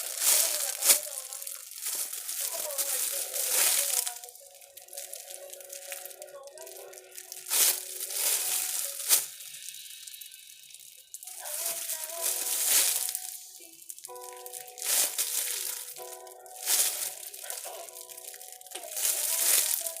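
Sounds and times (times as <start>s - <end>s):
background music: 0.0s - 20.0s
plastic packaging crinkling: 0.0s - 20.0s.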